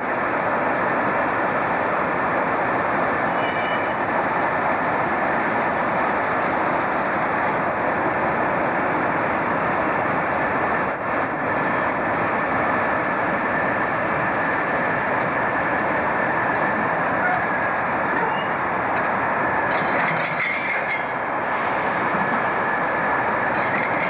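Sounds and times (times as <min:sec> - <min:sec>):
train rushing noise: 0:00.0 - 0:24.0.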